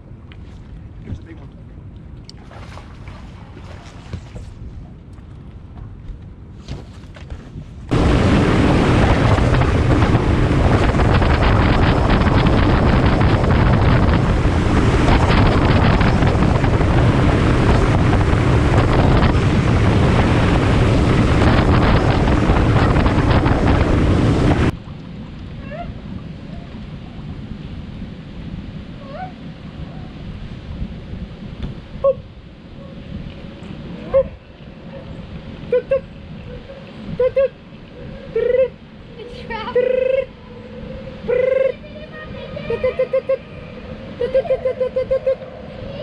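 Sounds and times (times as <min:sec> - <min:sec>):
water rushing along hull: 0:00.0 - 0:05.4, 0:07.9 - 0:46.0
wind buffeting microphone: 0:00.0 - 0:46.0
outboard engine drone: 0:07.8 - 0:46.0.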